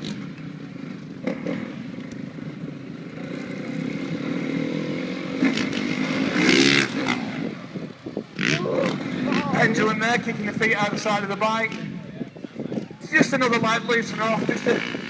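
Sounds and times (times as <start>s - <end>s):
motorbike engine revving: 0.0s - 12.1s, 13.2s - 15.0s.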